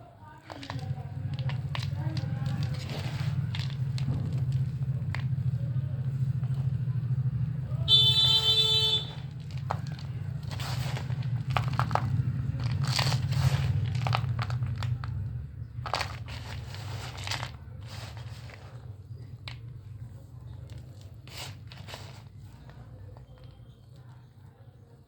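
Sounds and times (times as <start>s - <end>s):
dry clay crunching: 0.4s - 25.0s.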